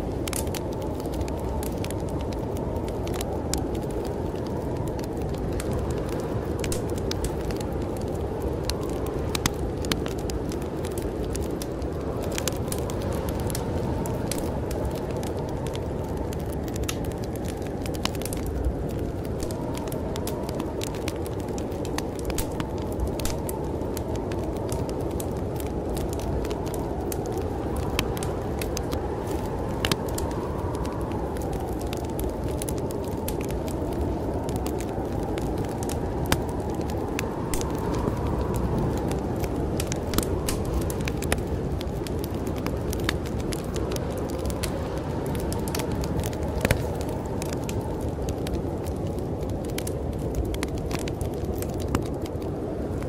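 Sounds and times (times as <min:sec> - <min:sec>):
low rush of wind: 0:00.0 - 0:53.0
wood fire crackling: 0:00.0 - 0:53.0.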